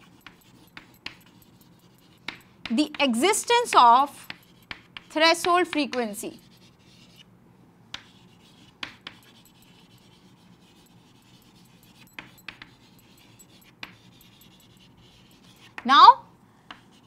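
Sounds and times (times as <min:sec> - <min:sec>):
chalk tapping on board: 0:00.0 - 0:07.2, 0:07.9 - 0:15.9, 0:16.7 - 0:17.0
chalk scratching on chalkboard: 0:00.0 - 0:07.3, 0:08.0 - 0:15.9, 0:16.7 - 0:17.0.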